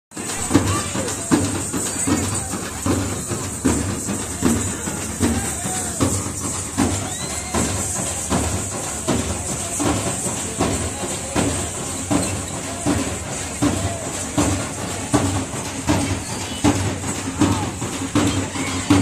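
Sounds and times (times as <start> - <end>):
crowd voices: 0.1 - 19.0
frame drums beaten in rhythm: 0.1 - 19.0.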